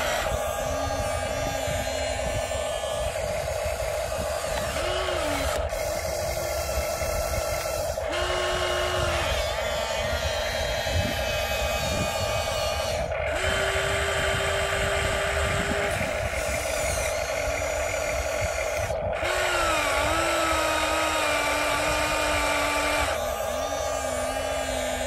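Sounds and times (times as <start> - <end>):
toy excavator electric motors whining: 0.0 - 25.0.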